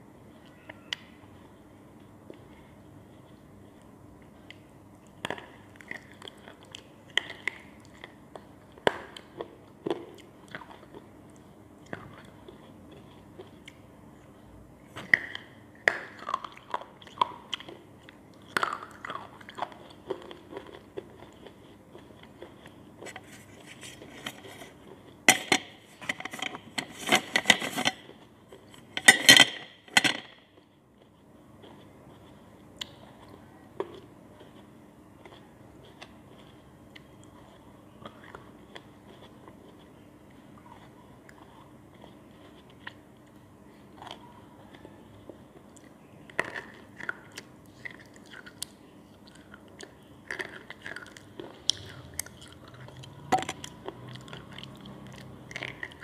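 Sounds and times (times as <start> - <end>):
slate pencils crunching in mouth: 1.4 - 13.9, 15.0 - 56.0.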